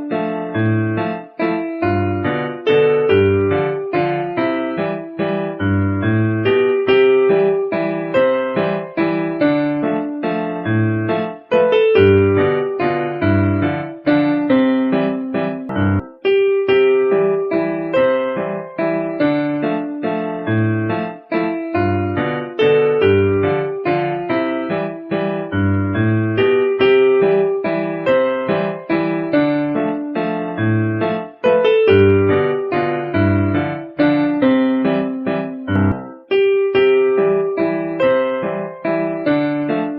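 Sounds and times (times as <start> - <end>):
piano melody over bass: 0.0 - 39.9.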